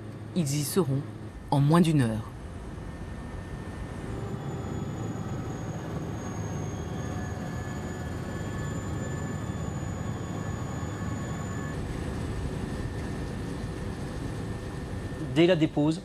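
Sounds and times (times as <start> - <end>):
helicopter engine and rotor drone: 0.0 - 16.0
helicopter turbine whine: 0.0 - 16.0.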